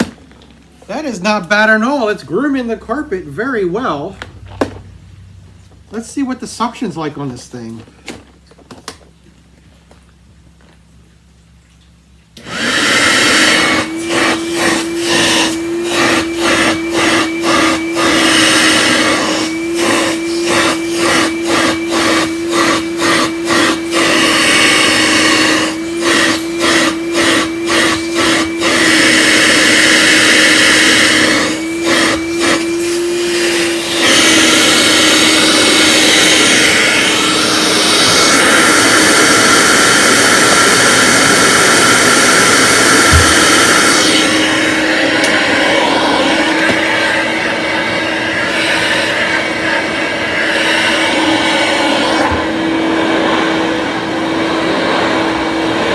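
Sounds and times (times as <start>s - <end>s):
upright vacuum running: 0.0s - 4.9s, 12.4s - 55.9s.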